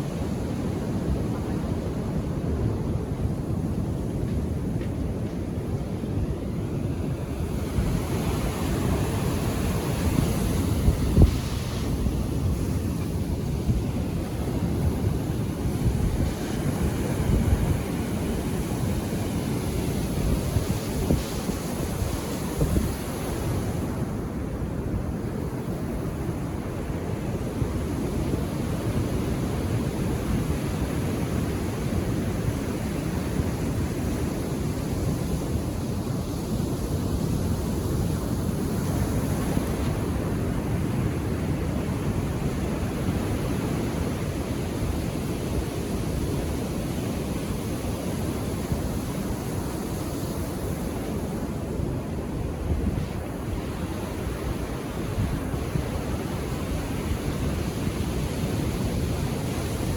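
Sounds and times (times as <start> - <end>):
surf breaking on shore: 0.0 - 59.9
wind buffeting microphone: 0.0 - 59.9.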